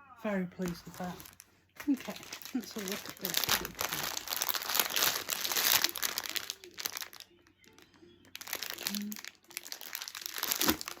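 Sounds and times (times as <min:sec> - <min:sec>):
plastic packaging crinkling: 0:00.6 - 0:11.0.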